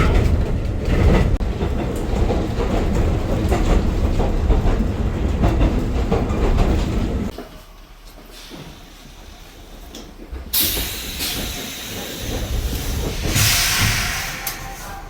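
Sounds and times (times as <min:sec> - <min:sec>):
train rumbling: 0:00.0 - 0:15.0
train wheels clattering over rails: 0:00.0 - 0:15.0.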